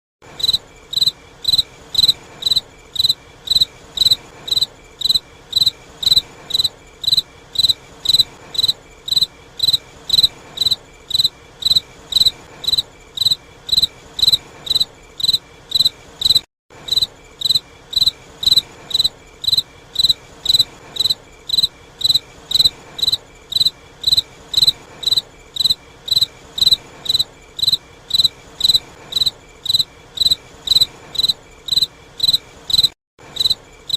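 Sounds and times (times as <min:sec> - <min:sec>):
cricket chirping: 0:00.3 - 0:33.9.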